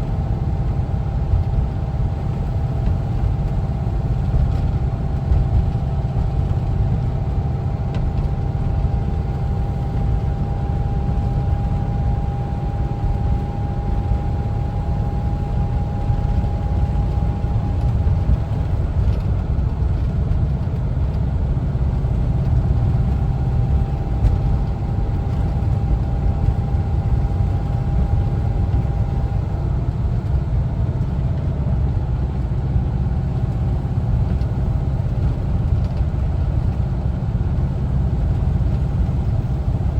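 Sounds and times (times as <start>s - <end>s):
engine running low rumble: 0.0s - 39.9s.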